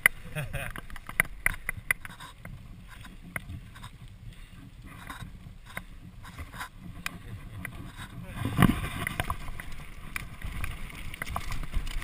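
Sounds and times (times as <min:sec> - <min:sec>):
bike clicks and rattles: 0:00.0 - 0:04.0, 0:04.8 - 0:12.0.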